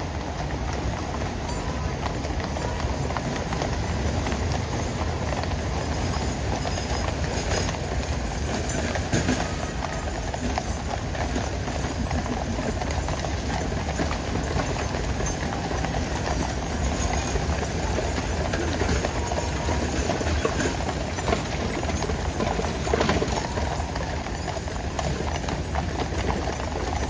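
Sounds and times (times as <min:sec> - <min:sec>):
horses' hooves clip-clopping: 0:00.0 - 0:27.0.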